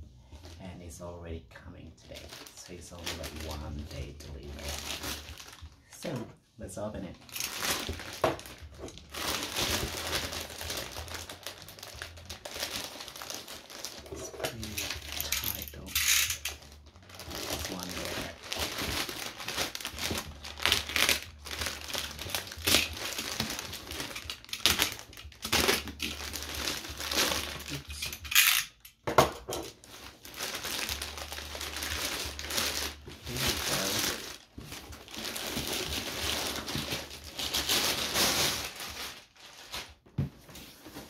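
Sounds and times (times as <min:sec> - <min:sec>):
packaging crinkling and rustling: 0:02.0 - 0:06.2, 0:07.1 - 0:28.9, 0:29.5 - 0:41.0.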